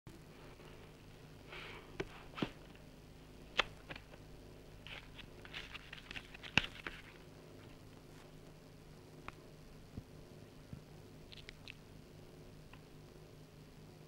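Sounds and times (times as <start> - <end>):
faint steady hum: 0.1 - 14.0.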